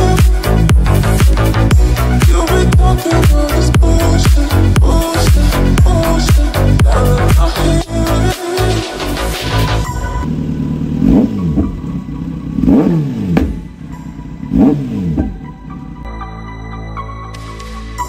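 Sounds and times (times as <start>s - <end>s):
motorcycle engine idling and revving: 0.0s - 16.2s.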